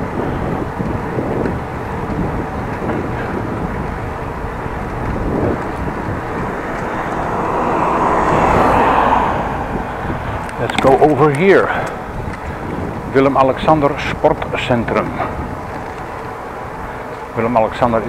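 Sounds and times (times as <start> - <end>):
bicycle road noise: 0.0 - 18.0
rushing wind: 0.0 - 18.0.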